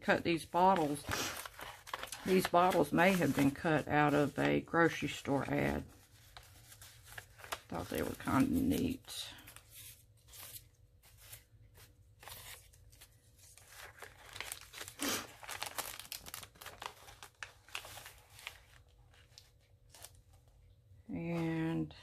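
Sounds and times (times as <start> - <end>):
paper pages rustling and crinkling: 0.2 - 20.6.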